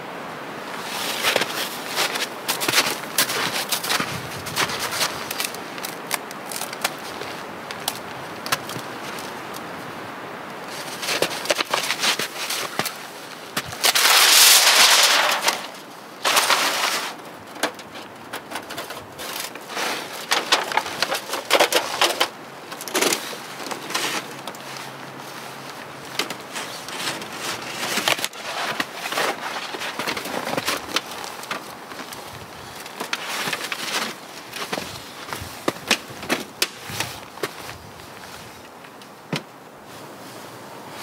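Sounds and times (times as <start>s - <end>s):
rustling scrapes: 0.8s - 7.5s, 10.7s - 38.9s.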